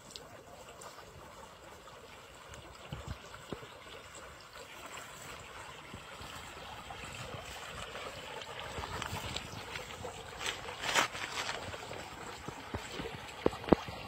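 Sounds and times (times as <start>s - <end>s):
water splashing and gurgling: 0.0s - 14.0s.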